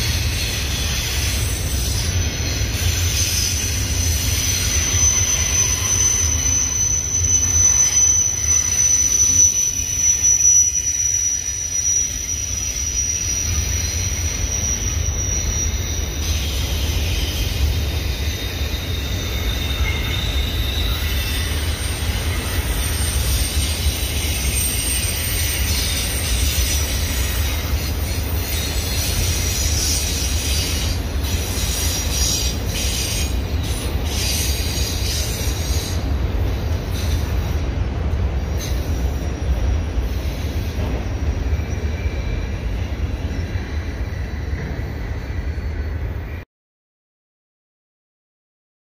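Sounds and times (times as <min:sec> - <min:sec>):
train wheels rumbling on rail: 0:00.0 - 0:07.8, 0:08.4 - 0:46.4
train clicks and clanks: 0:00.0 - 0:07.9, 0:08.6 - 0:46.2
high wheel squeal: 0:00.0 - 0:46.4.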